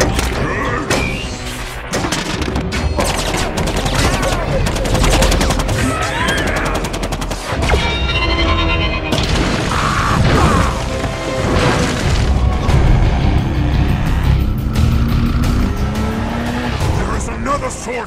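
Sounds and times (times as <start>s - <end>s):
film music score: 0.0s - 18.0s.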